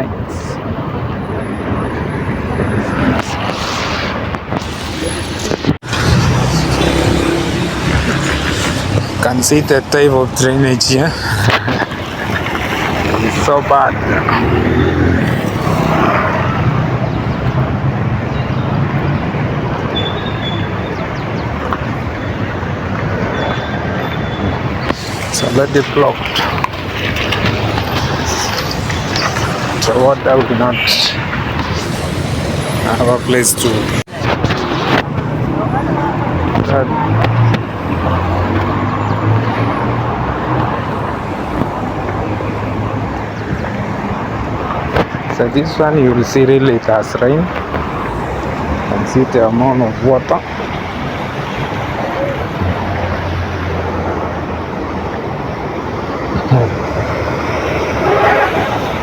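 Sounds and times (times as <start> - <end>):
road traffic hum: 0.0 - 59.0.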